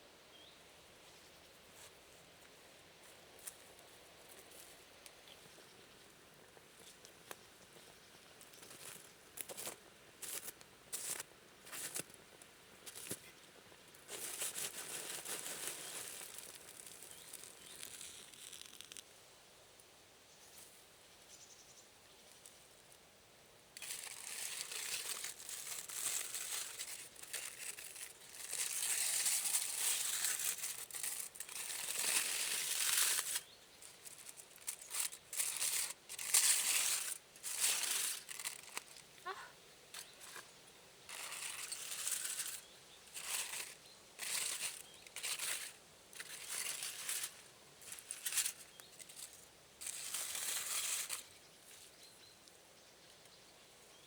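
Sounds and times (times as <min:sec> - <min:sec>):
rustling and crinkling: 0:01.7 - 0:05.8, 0:06.4 - 0:19.1, 0:23.8 - 0:52.2.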